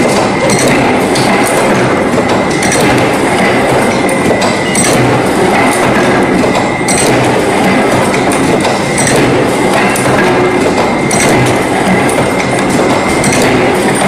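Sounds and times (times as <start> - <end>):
machine mechanical clatter: 0.0 - 14.0
sharp metallic clicks: 0.0 - 14.0.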